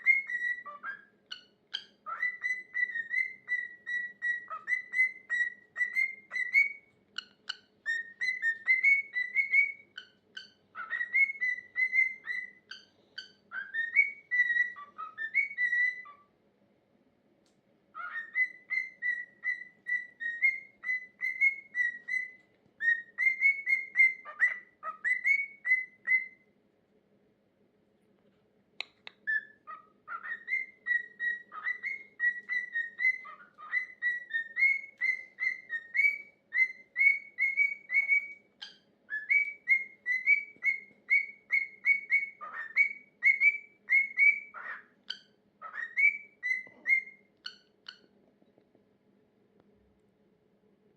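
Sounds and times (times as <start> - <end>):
cockatiel whistling: 0.0 - 16.3, 17.9 - 26.5, 28.8 - 48.1.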